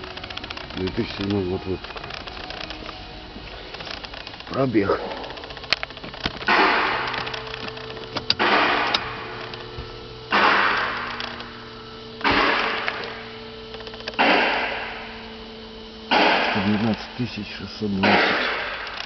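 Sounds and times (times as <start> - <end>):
car engine humming: 0.0 - 19.0
sharp clicks: 0.0 - 19.0.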